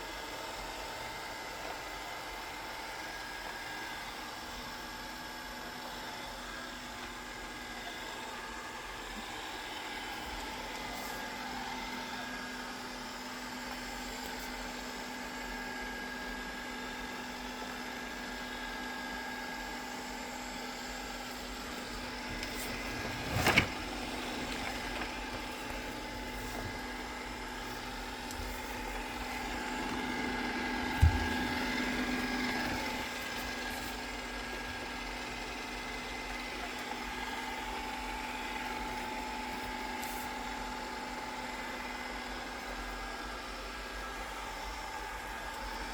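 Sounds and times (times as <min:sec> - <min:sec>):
robot vacuum motor hum: 0:00.1 - 0:45.9.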